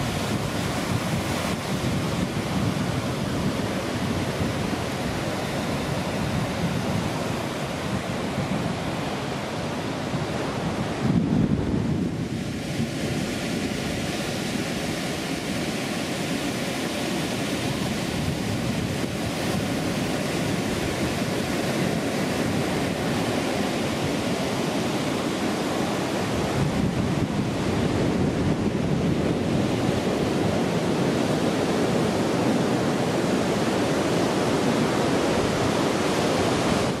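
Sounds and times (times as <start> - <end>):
ocean surf breaking on beach: 0.0 - 37.0
wind buffeting microphone: 0.0 - 37.0.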